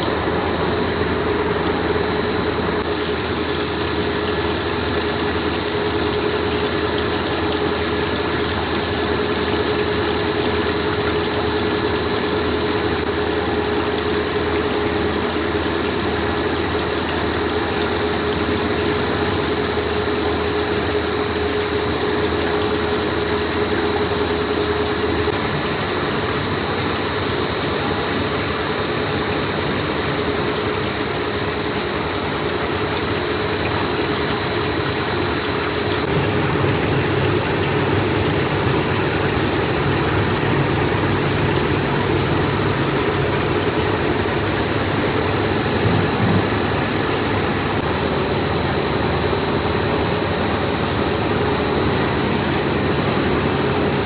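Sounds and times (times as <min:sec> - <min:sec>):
factory machinery drone: 0:00.0 - 0:54.0
high machine whine: 0:00.0 - 0:54.0.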